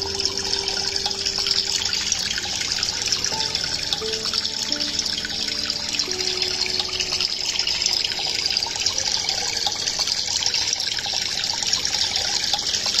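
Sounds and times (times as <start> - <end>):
aquarium water trickling: 0.0 - 13.0.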